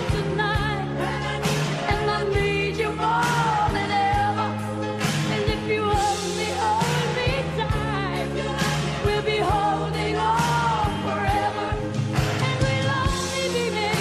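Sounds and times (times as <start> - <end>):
pop song: 0.0 - 14.0.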